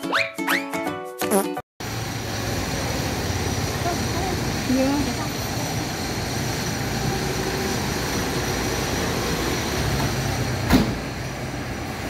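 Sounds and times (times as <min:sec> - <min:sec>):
street traffic rumble: 0:01.8 - 0:12.0.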